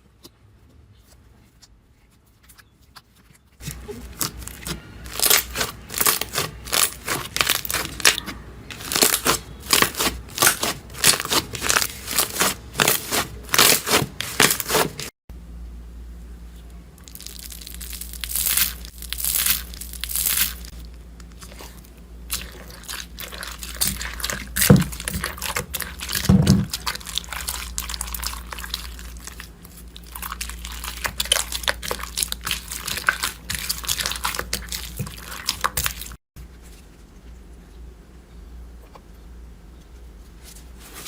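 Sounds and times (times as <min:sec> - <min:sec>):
steady low hum: 0:03.6 - 0:41.0.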